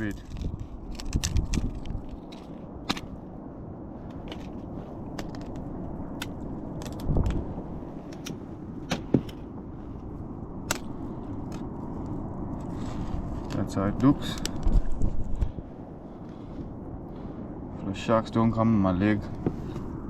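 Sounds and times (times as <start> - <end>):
wind and sea water rushing: 0.0 - 20.0.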